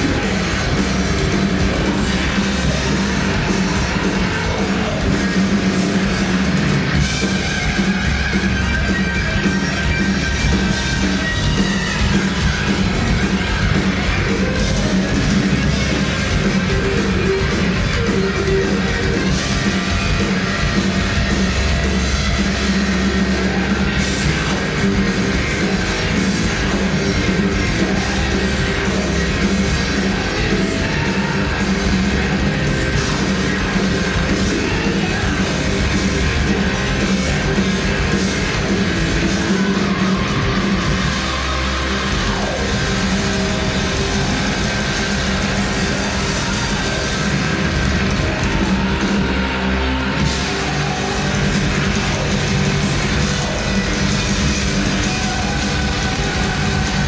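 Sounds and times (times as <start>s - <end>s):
distorted electric guitars: 0.0s - 57.0s
drums: 0.0s - 57.0s.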